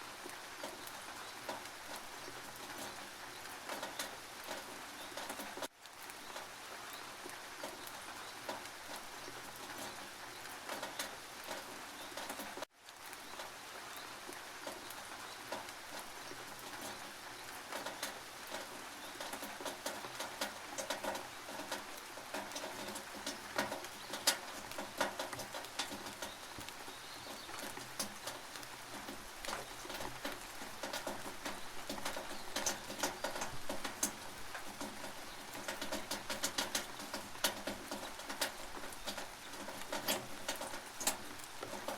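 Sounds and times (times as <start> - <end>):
rain on a tin roof: 0.0 - 41.9.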